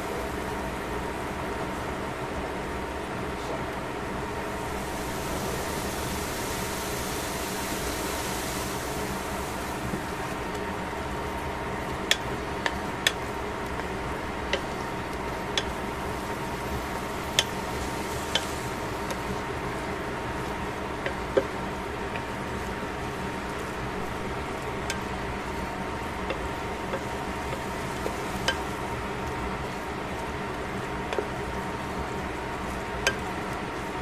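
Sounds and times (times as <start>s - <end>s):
steady hum: 0.0s - 34.0s
food sizzling in a pan: 4.1s - 34.0s.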